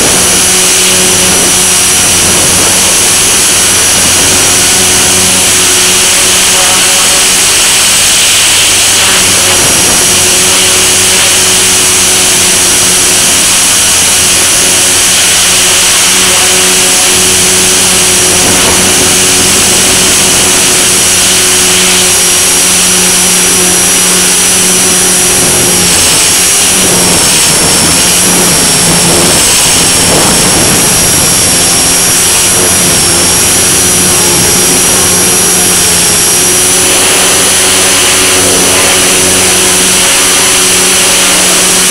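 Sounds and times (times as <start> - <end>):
high-pitched electric motor whine: 0.0 - 41.9
rotors buzzing: 0.0 - 41.9.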